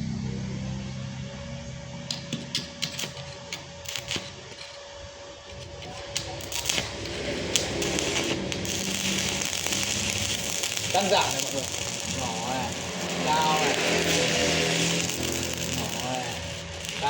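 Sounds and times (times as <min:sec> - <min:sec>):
welding arc clicks and snaps: 0:02.1 - 0:04.9, 0:05.5 - 0:17.0
welding arc crackling hiss: 0:02.1 - 0:17.0.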